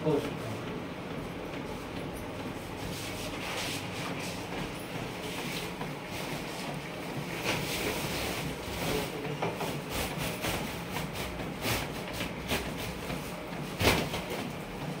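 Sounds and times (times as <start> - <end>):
printer low hum: 0.0 - 15.0.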